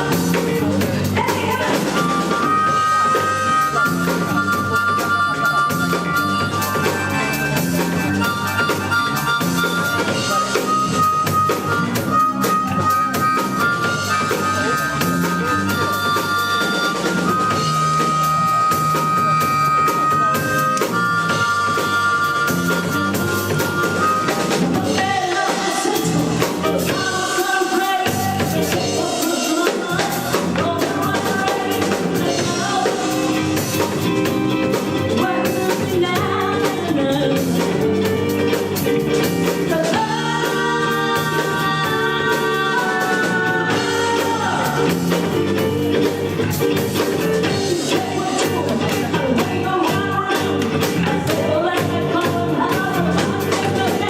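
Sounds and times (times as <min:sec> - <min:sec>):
drums: 0:00.0 - 0:54.0
person singing: 0:00.0 - 0:54.0
rock band playing: 0:00.0 - 0:54.0.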